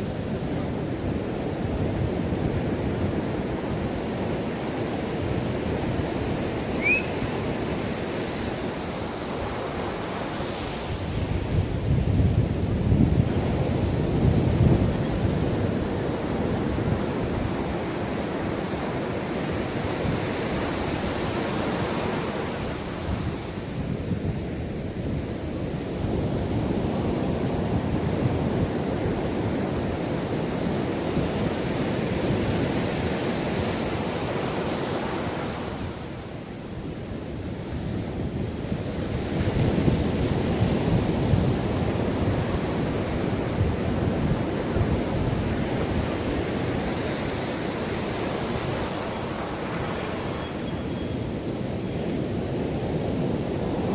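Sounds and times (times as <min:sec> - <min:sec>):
ocean waves breaking: 0:00.0 - 0:53.9
wind buffeting microphone: 0:00.0 - 0:53.9.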